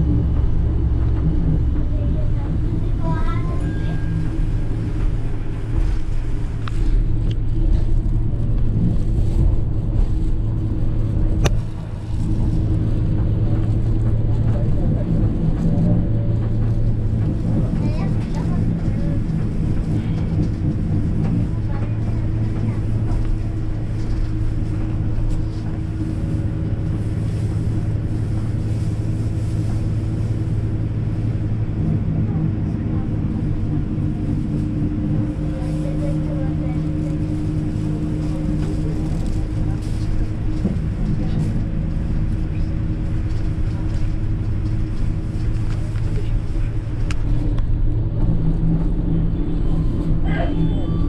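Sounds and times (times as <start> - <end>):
bus engine and road rumble: 0.0 - 51.0.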